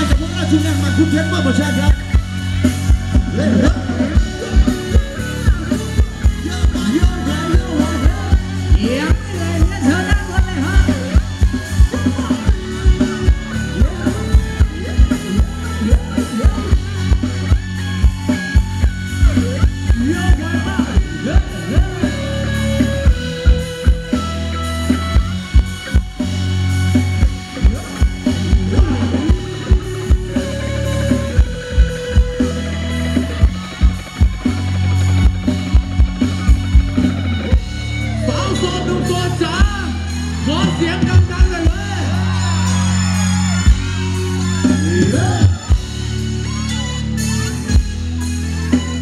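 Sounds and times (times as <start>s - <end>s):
fast drum beat: 0.0s - 46.2s.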